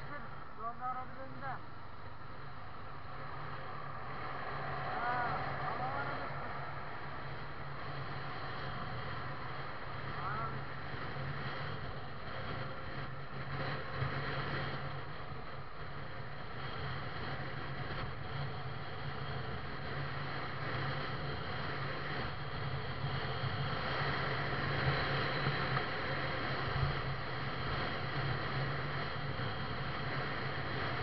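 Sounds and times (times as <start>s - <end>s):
wind noise: 0.0s - 31.0s
motorcycle engine running: 3.3s - 31.0s.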